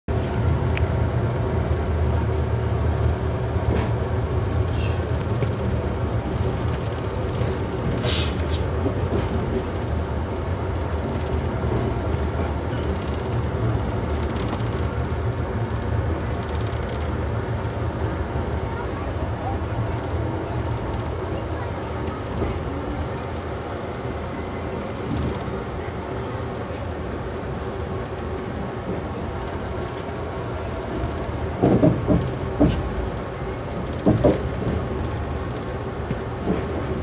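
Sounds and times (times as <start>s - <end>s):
train carriage rumbling on rails: 0.1s - 37.0s.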